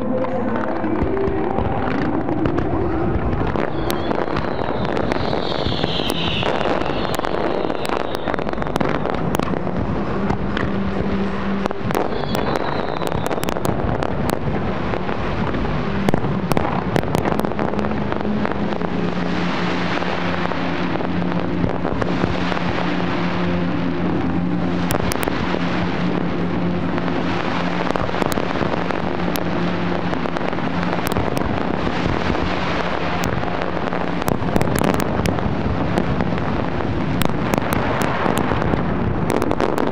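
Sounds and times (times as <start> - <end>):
constant rumble: 0.0 - 39.9
fireworks crackling and popping: 0.0 - 39.9
steady low drone: 0.0 - 39.9.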